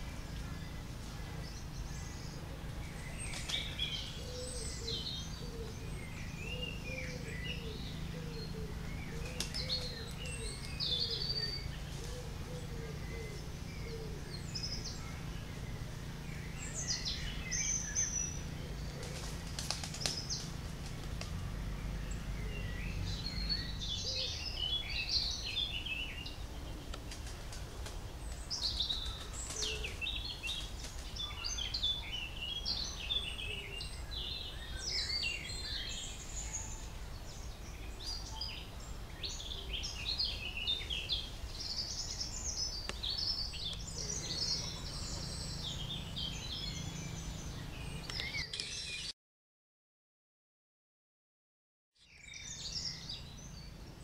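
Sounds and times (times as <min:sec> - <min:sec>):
low steady rumble: 0:00.0 - 0:48.3
songbirds calling and singing: 0:00.0 - 0:49.2, 0:52.0 - 0:54.0.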